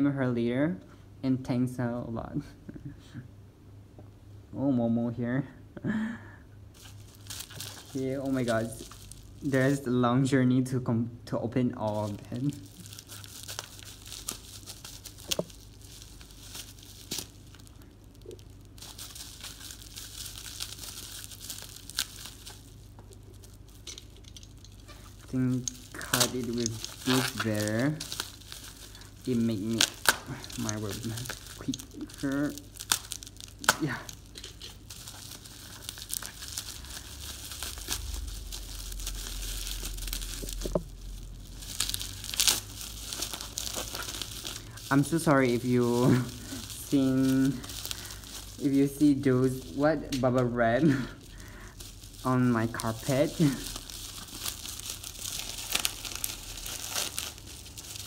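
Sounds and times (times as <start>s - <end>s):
parcel packaging crinkling and tearing: 6.7s - 10.6s, 11.6s - 58.0s.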